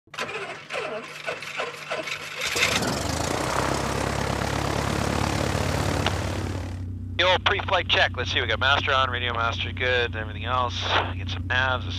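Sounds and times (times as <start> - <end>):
propeller aircraft engine: 0.1 - 11.9.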